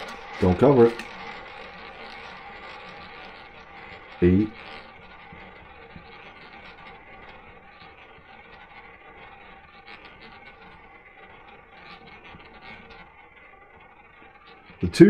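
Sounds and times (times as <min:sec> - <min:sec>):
roulette wheel rolling rumble: 0:00.0 - 0:15.0.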